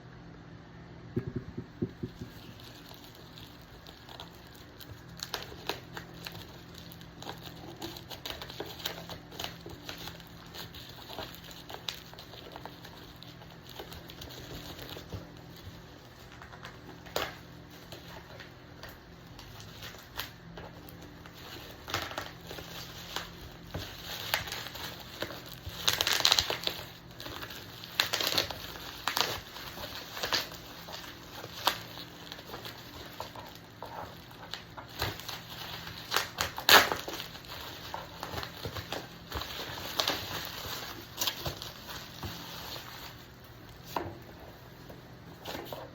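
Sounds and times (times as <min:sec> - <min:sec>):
crinkling and crackling: 0:01.2 - 0:45.9.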